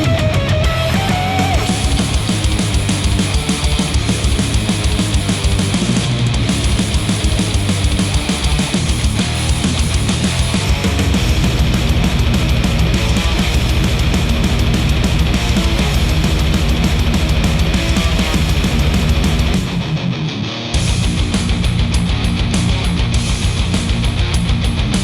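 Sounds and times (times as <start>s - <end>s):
heavy metal rock music: 0.0s - 25.0s.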